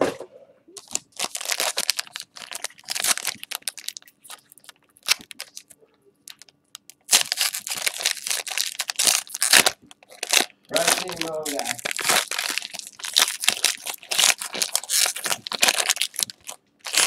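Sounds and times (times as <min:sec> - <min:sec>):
foil wrapper crinkling: 0:00.8 - 0:17.0.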